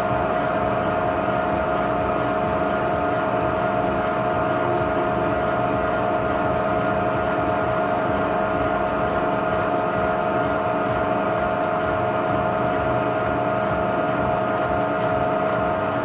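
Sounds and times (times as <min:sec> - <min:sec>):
milling machine running: 0:00.0 - 0:16.0.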